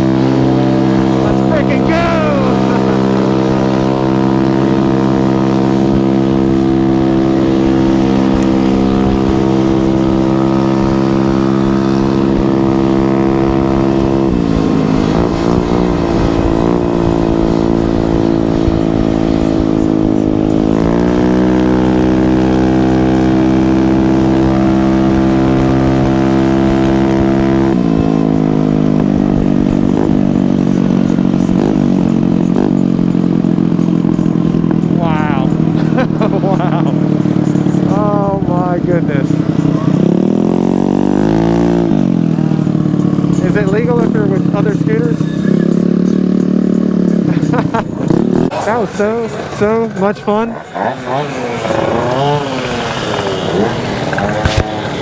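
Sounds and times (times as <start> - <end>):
scooter engines running hard: 0.0 - 55.0.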